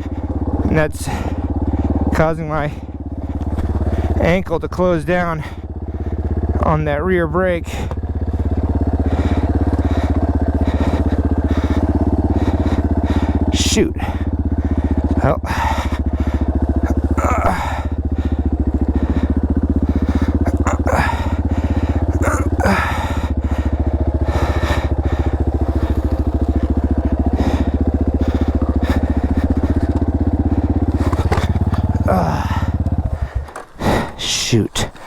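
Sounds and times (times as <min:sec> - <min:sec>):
dirt bike engine idling: 0:00.0 - 0:35.0.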